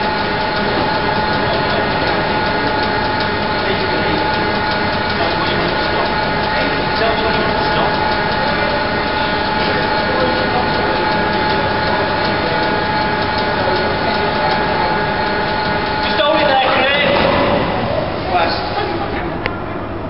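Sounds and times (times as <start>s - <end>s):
machinery whine and rumble: 0.0s - 20.0s.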